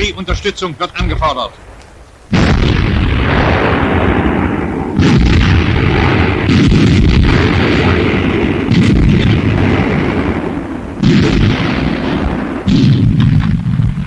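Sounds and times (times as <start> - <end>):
artillery guns booming: 0.0 - 14.0
low battle rumble: 0.0 - 14.0.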